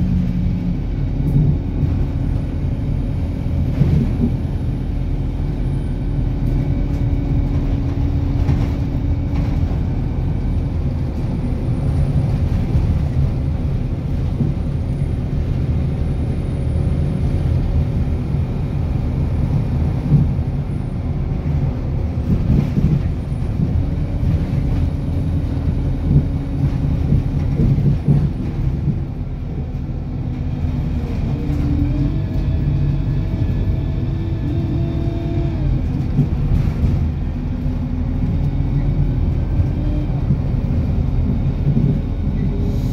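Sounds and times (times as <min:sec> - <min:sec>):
engine drone: 0:00.0 - 0:42.9.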